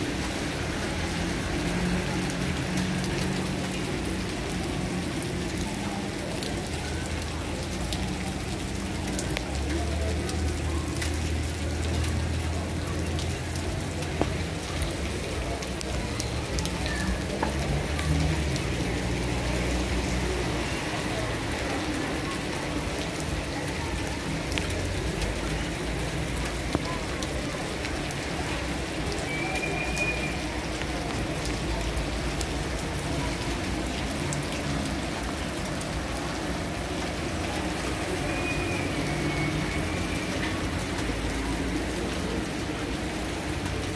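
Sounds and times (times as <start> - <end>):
rain on a street: 0.0 - 43.9.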